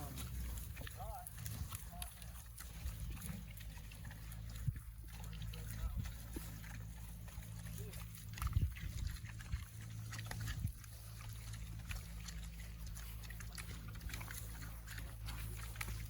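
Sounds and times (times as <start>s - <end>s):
pigs grunting: 0.0s - 16.0s.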